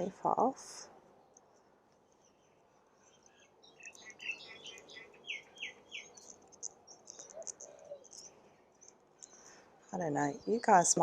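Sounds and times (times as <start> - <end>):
small birds chirping: 1.1 - 11.0.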